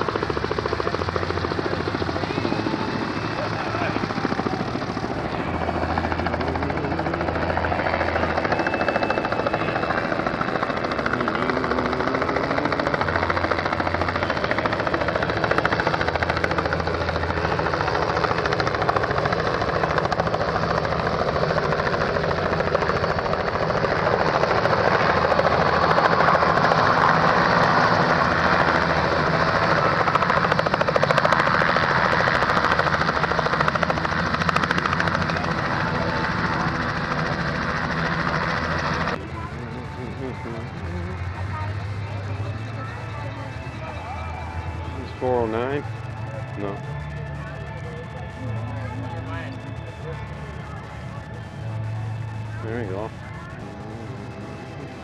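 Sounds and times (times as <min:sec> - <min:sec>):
aircraft engine rushing: 0:00.0 - 0:55.0.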